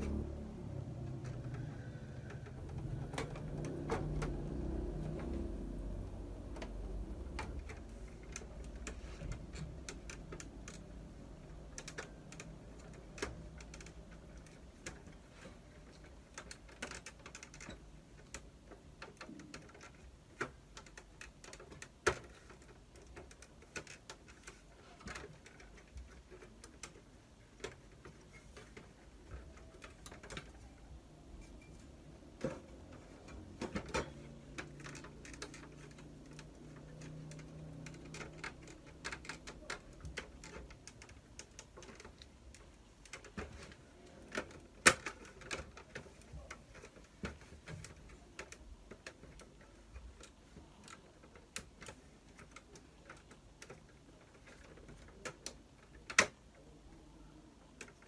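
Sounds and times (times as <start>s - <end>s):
plastic printer parts clicking: 1.0s - 58.0s.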